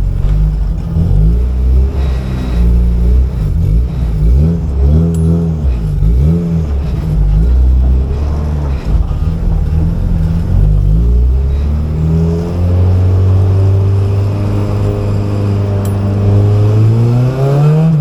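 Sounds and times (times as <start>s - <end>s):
car engine running under load: 0.0s - 18.0s.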